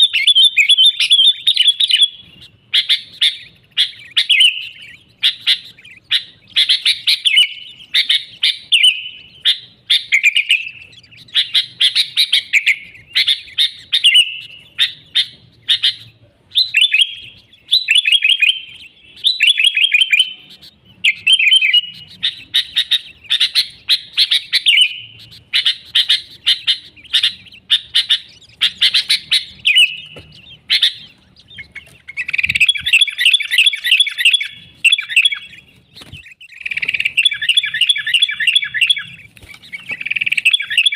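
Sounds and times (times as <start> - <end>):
bird singing warbling phrases: 0.0 - 40.9.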